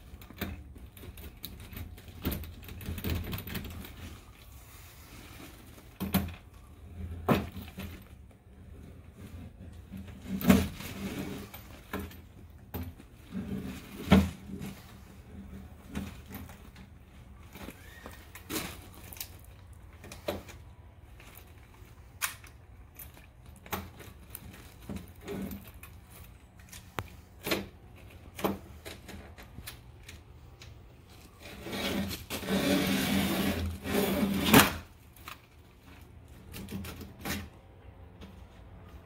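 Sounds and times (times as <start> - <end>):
scraping and rubbing: 0.0 - 29.9, 31.0 - 37.7.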